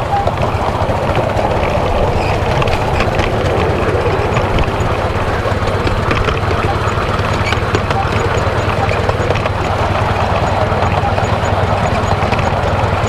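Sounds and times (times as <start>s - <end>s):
miniature steam locomotive running: 0.0s - 13.0s
wheels clicking on rails: 0.0s - 13.0s.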